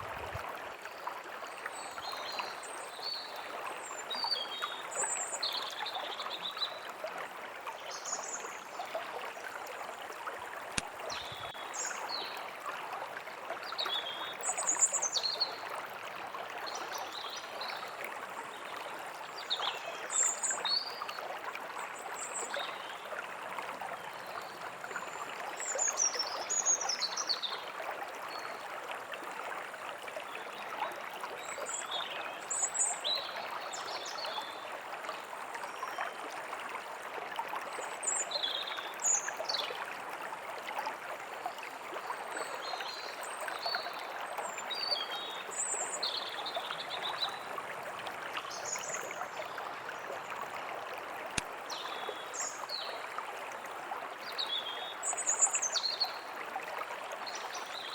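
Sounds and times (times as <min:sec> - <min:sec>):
small stream babbling: 0:00.0 - 0:57.9.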